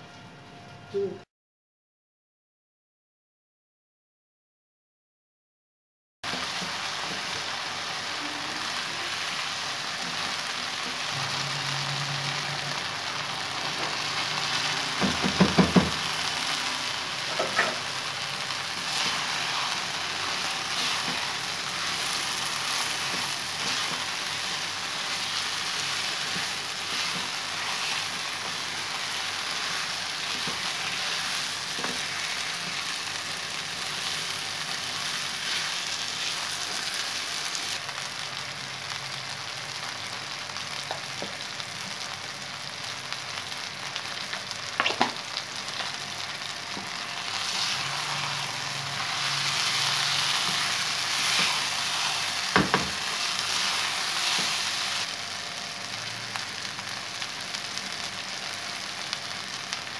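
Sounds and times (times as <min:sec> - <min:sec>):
food sizzling in a wok: 0:06.2 - 0:59.9.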